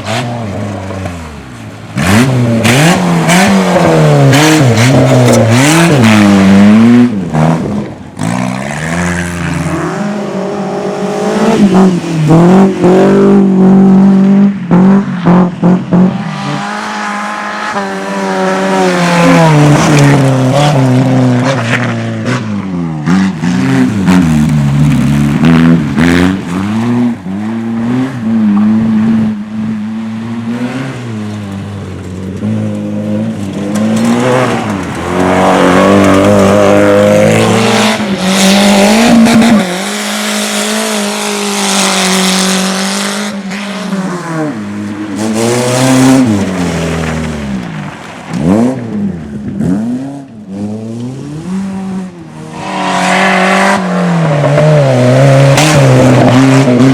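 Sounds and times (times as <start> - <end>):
rally car engine revving: 0.0 - 56.9.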